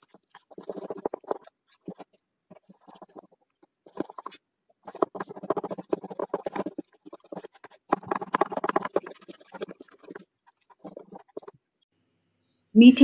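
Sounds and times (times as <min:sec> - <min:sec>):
spoon beating batter in steel bowl: 0:00.0 - 0:11.6.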